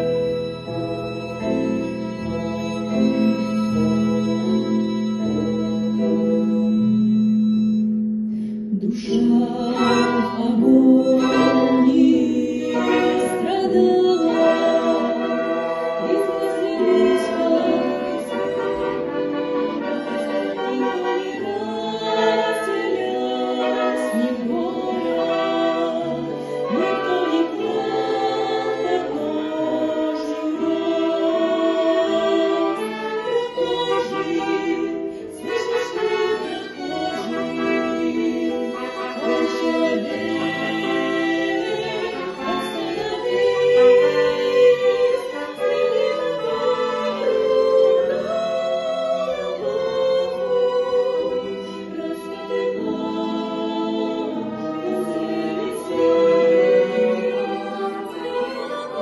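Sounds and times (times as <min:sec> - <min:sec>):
choir singing slow religious song: 0:08.8 - 0:59.0.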